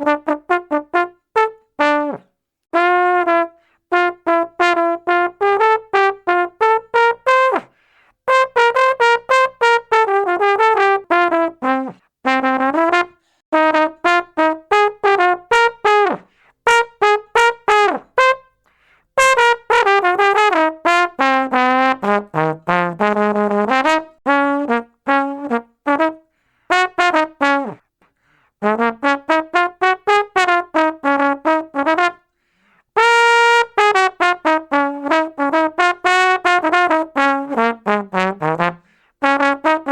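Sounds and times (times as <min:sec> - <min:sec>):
solo brass instrument playing: 0:00.0 - 0:27.9, 0:28.6 - 0:32.4, 0:33.0 - 0:39.9.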